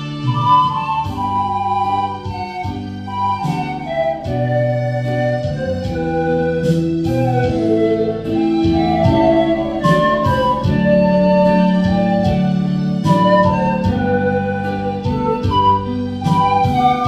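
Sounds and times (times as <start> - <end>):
bass and keyboard backing: 0.0 - 17.0
pan flute melody: 0.0 - 17.0.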